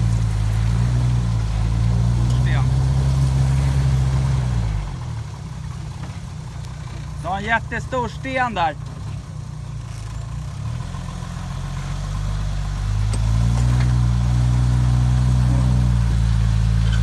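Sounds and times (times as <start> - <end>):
engine running at low revs: 0.0 - 17.0.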